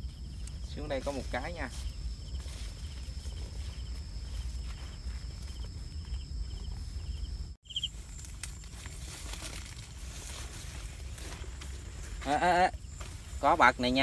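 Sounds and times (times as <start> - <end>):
wind rumbling on microphone: 0.0 - 14.0
plant stalks rustling and clicking: 0.1 - 7.1, 7.8 - 14.0.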